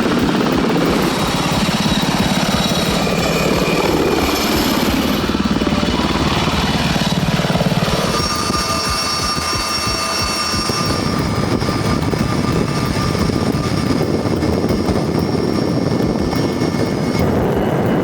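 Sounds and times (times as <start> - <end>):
helicopter rotor chop: 0.0 - 18.0
high turbine whine: 0.0 - 18.0.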